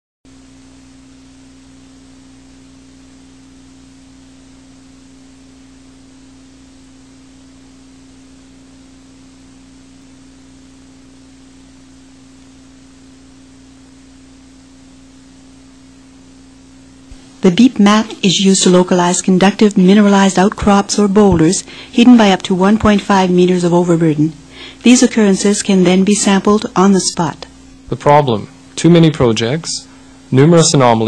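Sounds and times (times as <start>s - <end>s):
background hiss: 0.3s - 31.0s
steady low-mid tone: 0.3s - 31.0s.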